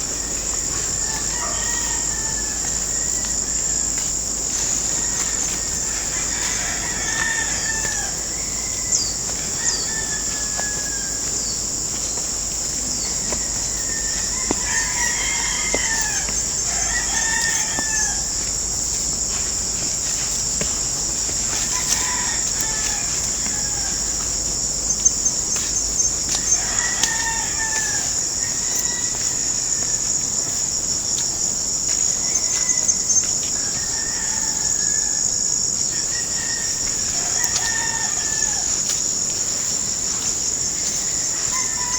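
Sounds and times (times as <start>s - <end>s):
high-pitched insect drone: 0.0s - 41.9s
roosters crowing: 0.0s - 41.9s.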